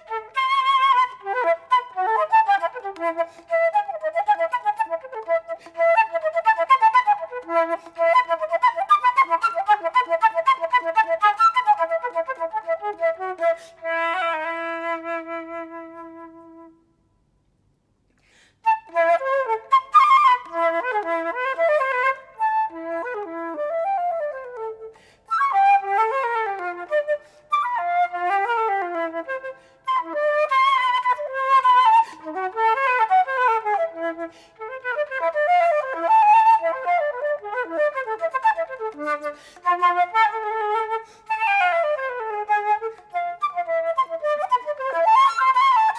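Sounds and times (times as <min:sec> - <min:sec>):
flute playing fast runs: 0:00.0 - 0:14.3, 0:18.7 - 0:24.4, 0:25.3 - 0:45.9.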